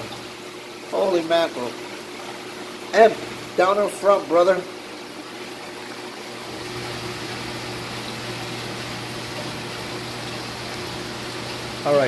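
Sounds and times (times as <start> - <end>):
low electrical pump hum: 0.0 - 12.0
running water hiss: 0.0 - 12.0.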